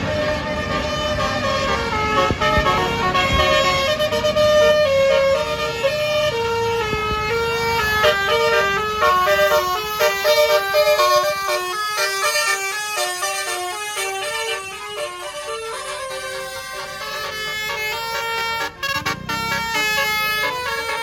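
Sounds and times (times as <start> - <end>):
bus engine running: 0.0 - 21.0
bus horn playing a melody: 0.0 - 21.0.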